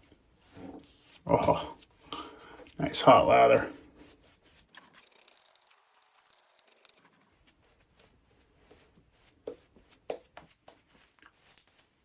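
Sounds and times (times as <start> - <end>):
shaving brush swishing lather: 0.4 - 12.0.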